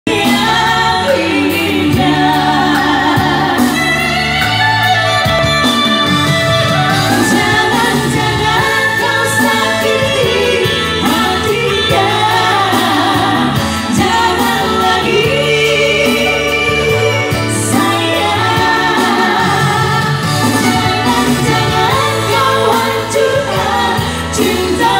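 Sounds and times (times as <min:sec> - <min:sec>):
amplified backing music: 0:00.0 - 0:24.9
women singing a duet: 0:00.1 - 0:04.9, 0:06.8 - 0:24.9.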